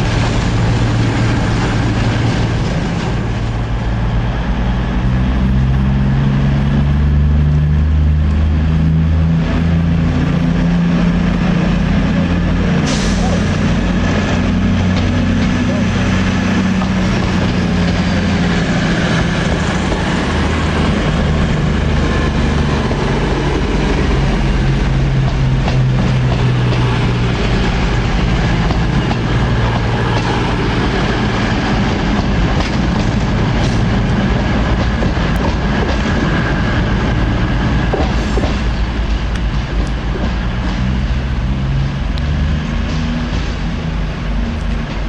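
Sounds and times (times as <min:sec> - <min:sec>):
diesel engines droning: 0:00.0 - 0:45.0
train wheels rumbling on rails: 0:00.0 - 0:45.0.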